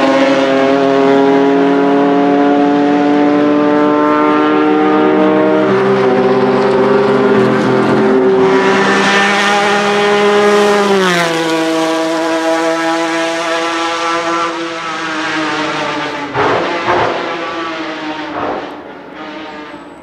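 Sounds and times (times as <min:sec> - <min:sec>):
rally car engine at high revs: 0:00.0 - 0:20.0.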